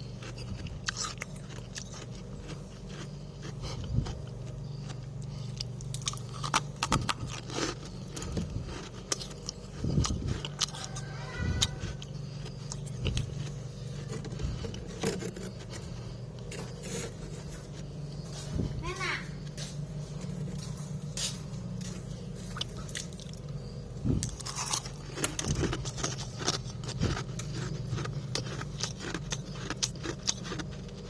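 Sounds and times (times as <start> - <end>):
crunching freezer frost: 0.0 - 31.0
steady low hum: 0.0 - 31.0.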